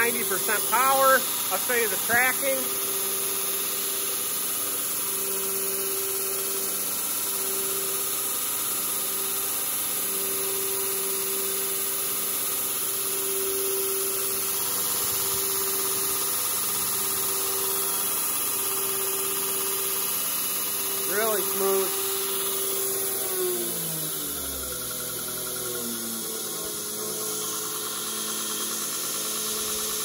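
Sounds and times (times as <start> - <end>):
belt grinder running: 0.0 - 30.0.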